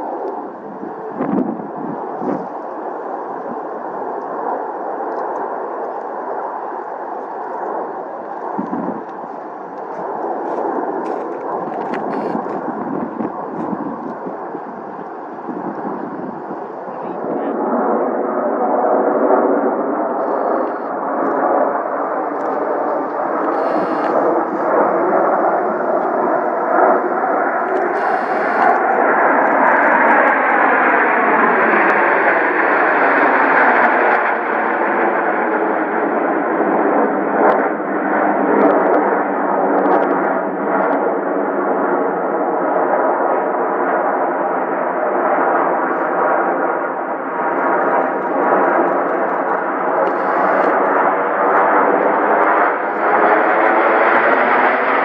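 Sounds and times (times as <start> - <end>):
aircraft engine passing: 0.0 - 35.4, 44.6 - 55.0.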